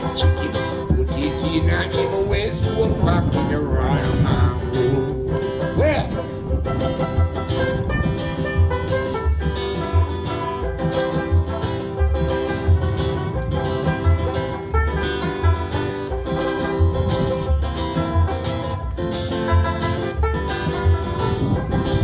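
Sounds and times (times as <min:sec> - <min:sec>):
acoustic guitar strumming: 0:00.0 - 0:22.0
banjo strumming: 0:00.0 - 0:22.0
bass line: 0:00.0 - 0:22.0
maracas shaking: 0:00.0 - 0:22.0.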